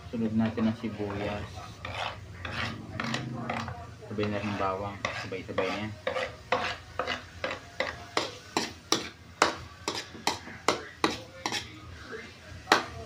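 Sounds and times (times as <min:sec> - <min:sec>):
metal spatula scraping a wok: 0:00.2 - 0:12.1.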